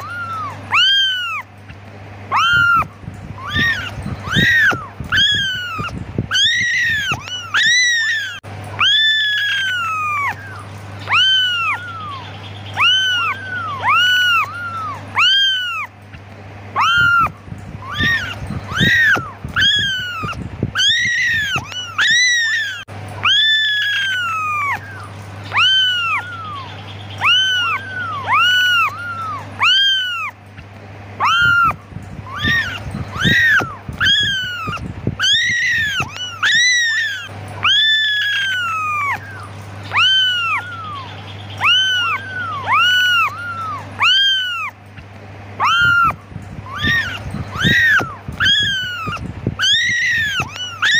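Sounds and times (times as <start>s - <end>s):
kittens meowing: 0.0s - 50.9s.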